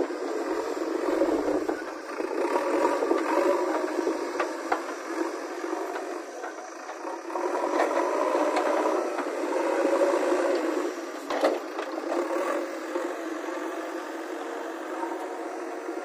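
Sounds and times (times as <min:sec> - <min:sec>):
backhoe loader working: 0:00.0 - 0:16.0.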